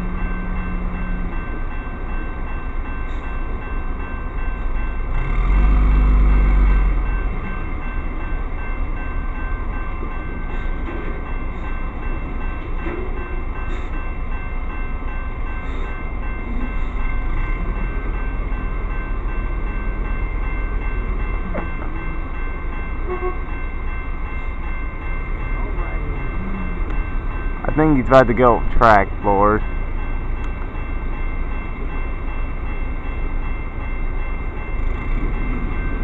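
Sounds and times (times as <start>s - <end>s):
railroad crossing bell ringing: 0.0s - 36.0s.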